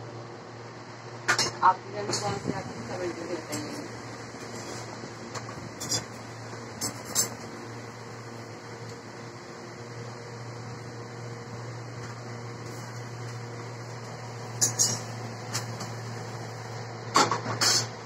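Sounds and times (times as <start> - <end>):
kitchen appliances humming: 0.0 - 18.0.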